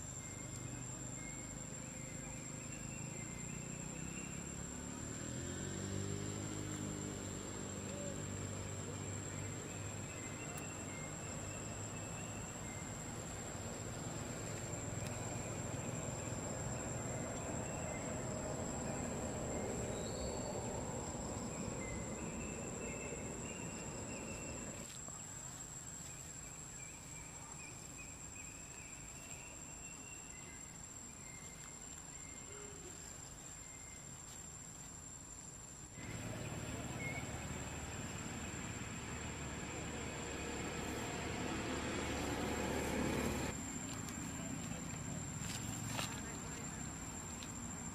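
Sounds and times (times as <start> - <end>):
insects chirping in trills: 0.0 - 47.9.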